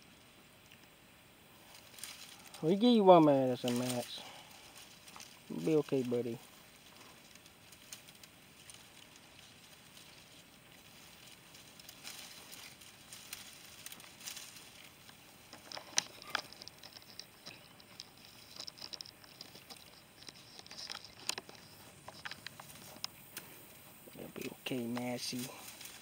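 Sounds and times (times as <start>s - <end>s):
leaves and twigs rustling: 0.0s - 26.0s
twigs snapping: 1.6s - 26.0s.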